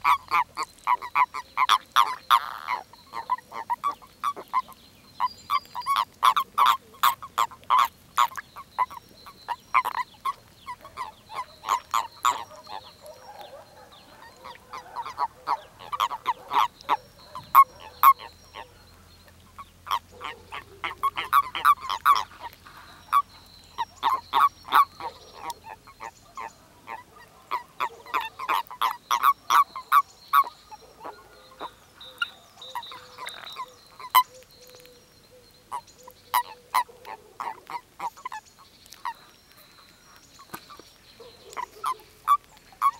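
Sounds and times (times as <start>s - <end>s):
toads croaking: 0.0s - 34.9s, 35.5s - 42.9s.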